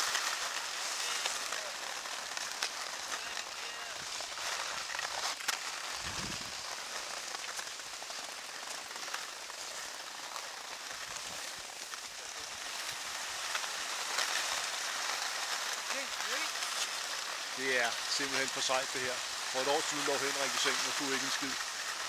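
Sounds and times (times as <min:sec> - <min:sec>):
skis sliding over snow: 0:00.0 - 0:22.0.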